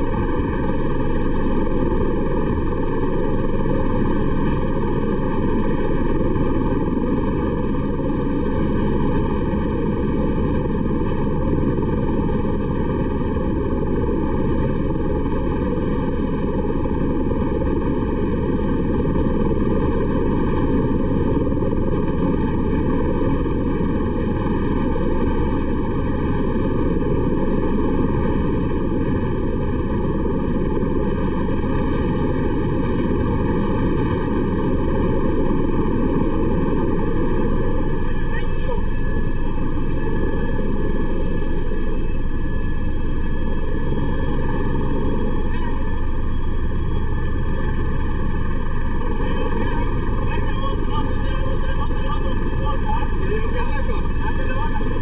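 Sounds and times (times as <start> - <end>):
helicopter engine and rotors: 0.0 - 55.0.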